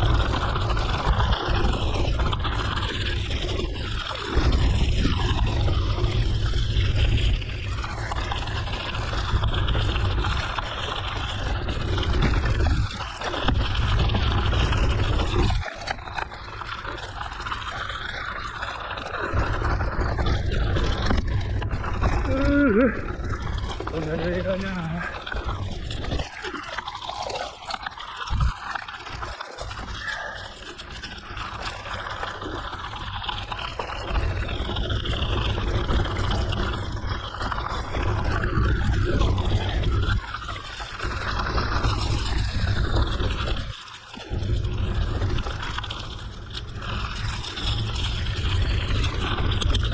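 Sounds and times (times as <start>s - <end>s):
bike tyres rolling on gravel: 0.0s - 49.9s
wind rumbling on microphone: 0.0s - 49.9s.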